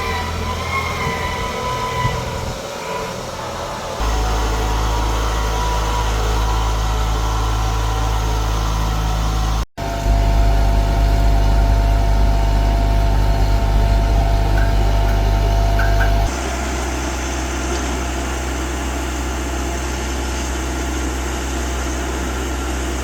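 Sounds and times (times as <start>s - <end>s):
high whine: 0.0s - 22.8s
diesel engine droning: 0.0s - 23.0s.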